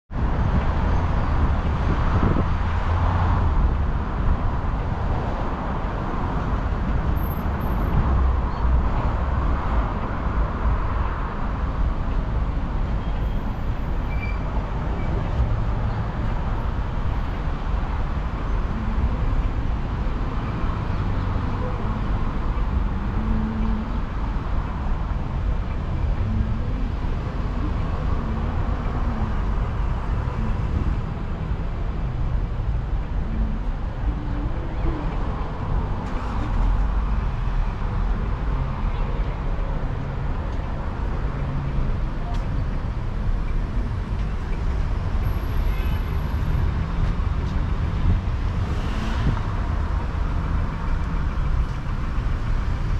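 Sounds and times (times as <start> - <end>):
road traffic rumble: 0.1 - 52.9
vehicles passing close by: 0.1 - 52.9.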